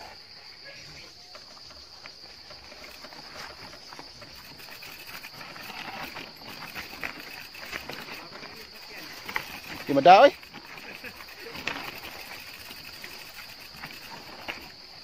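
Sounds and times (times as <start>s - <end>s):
bikes rattling over dirt trail: 0.0s - 15.0s
high-pitched insect drone: 0.0s - 15.0s.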